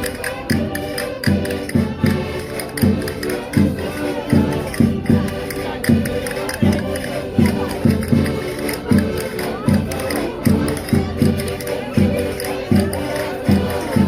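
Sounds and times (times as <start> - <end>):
button accordions playing dance tune: 0.0 - 14.0
crowd voices: 0.0 - 14.0.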